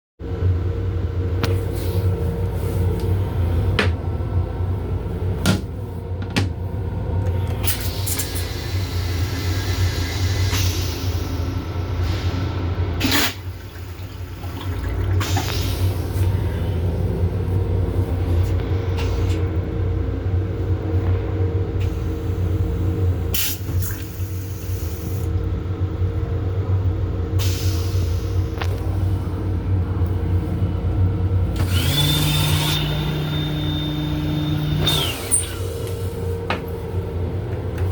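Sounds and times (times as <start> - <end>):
railcar interior hum: 0.2 - 32.0, 33.0 - 37.9.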